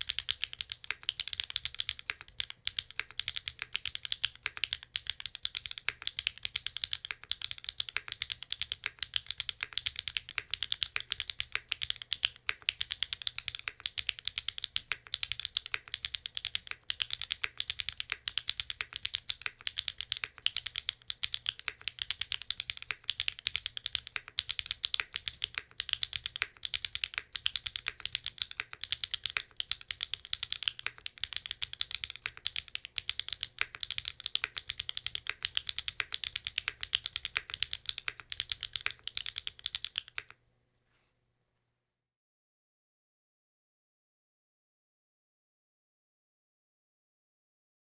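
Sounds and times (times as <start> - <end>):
fast typing on mechanical keyboard: 0.0 - 40.3.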